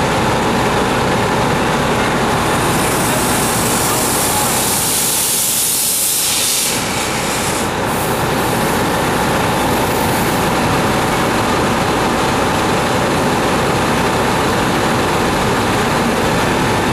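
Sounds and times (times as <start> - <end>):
large engine rumbling: 0.0 - 16.9.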